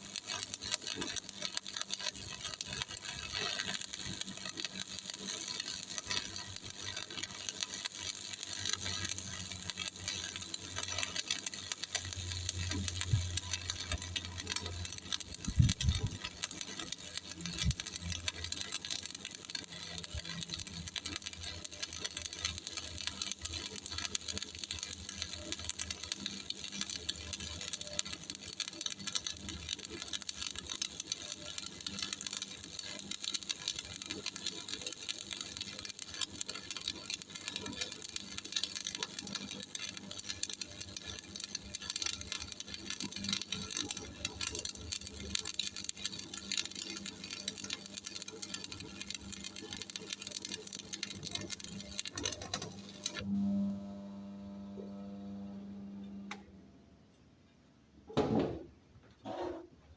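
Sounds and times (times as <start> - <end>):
welding arc crackling: 0.0 - 56.4.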